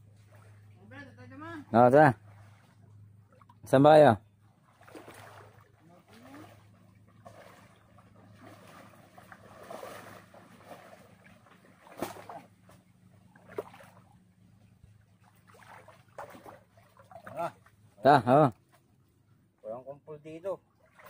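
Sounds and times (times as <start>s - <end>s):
steady low hum: 0.0s - 21.0s
water sloshing from wading: 0.0s - 21.0s.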